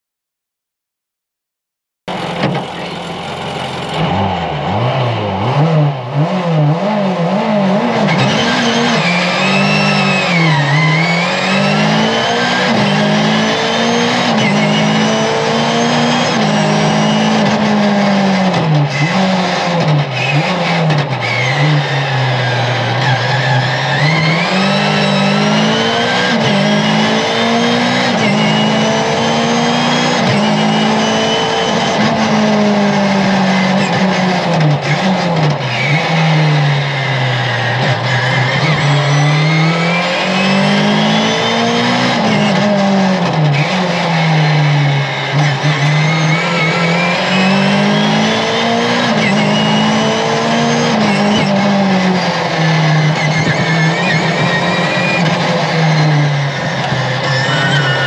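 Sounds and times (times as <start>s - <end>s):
car engine revving hard: 2.1s - 58.0s
high engine whine: 2.1s - 58.0s.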